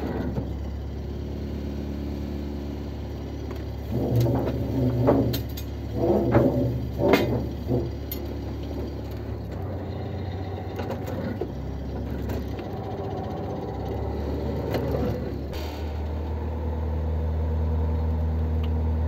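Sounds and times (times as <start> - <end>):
motorboat engine: 0.0 - 19.0.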